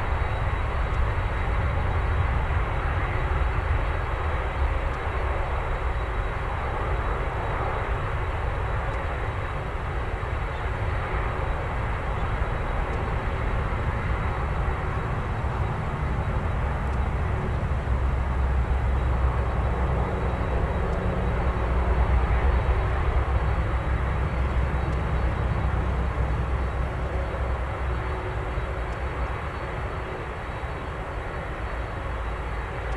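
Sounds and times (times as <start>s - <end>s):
jet engine rumble: 0.0s - 32.9s.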